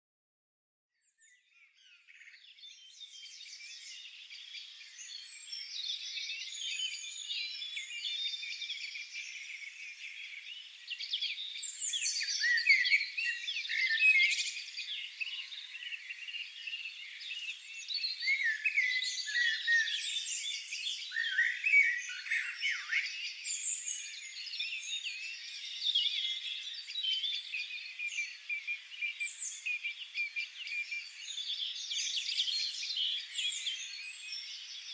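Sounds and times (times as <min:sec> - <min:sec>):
songbirds chorus: 0:01.0 - 0:34.9.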